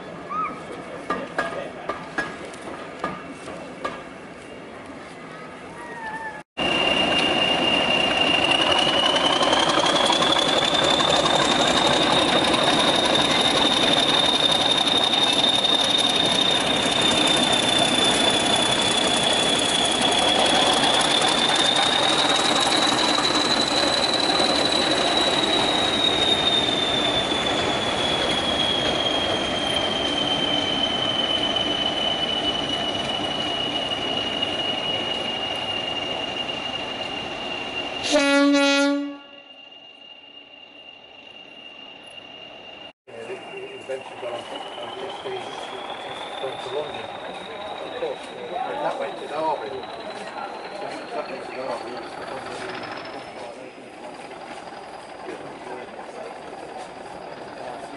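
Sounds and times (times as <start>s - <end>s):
wheels rumbling on rails: 0.0s - 38.2s, 39.3s - 57.9s
locomotive turbocharger whistle: 6.6s - 53.3s.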